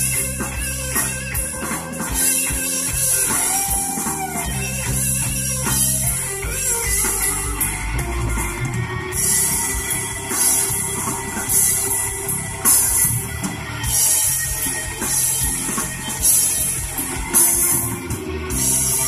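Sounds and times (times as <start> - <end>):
rock music on car stereo: 0.0 - 19.0.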